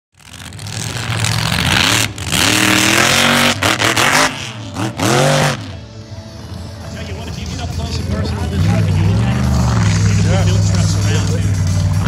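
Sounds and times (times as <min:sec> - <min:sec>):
truck engine revving: 0:00.1 - 0:12.0.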